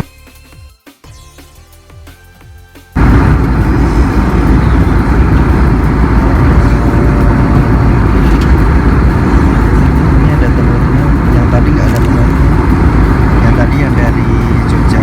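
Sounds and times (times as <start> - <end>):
airliner cabin engine roar: 3.0 - 15.0.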